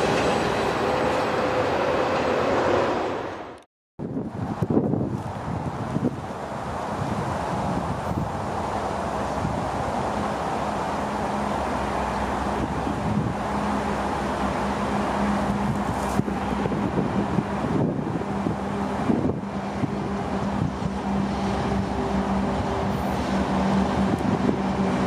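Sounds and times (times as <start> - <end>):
diesel locomotive engine drone: 0.0 - 25.0
wind rumble on microphone: 4.0 - 25.0.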